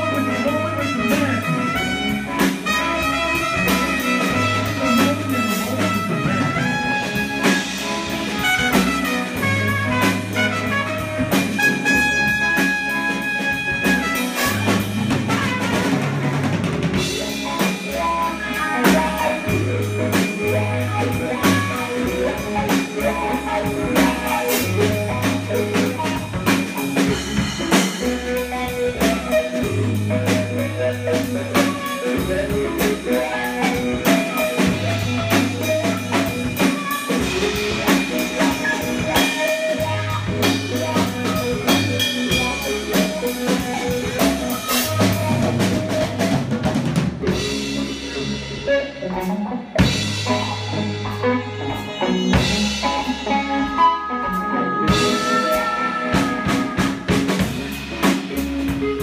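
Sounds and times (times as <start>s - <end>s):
trumpet: 0.0s - 46.7s, 50.3s - 59.0s
drum kit groove: 0.0s - 59.0s
electric guitars: 0.0s - 59.0s.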